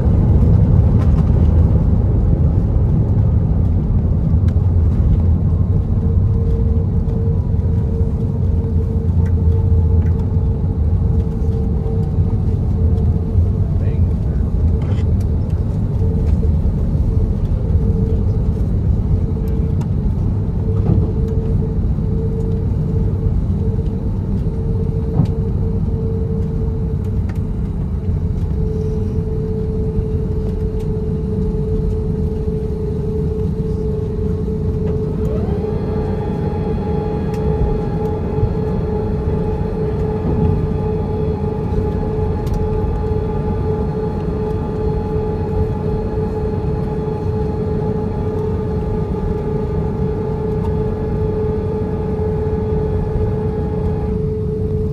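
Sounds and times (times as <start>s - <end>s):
aircraft cabin low rumble: 0.0s - 54.9s
steady whine: 0.0s - 54.9s
higher whine: 4.3s - 54.9s.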